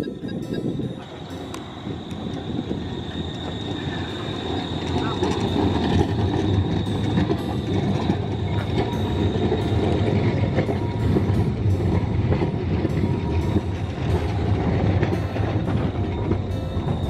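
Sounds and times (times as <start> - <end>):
low rumble of tram wheels on rail: 0.0 - 17.0
steady high whine: 0.0 - 17.0.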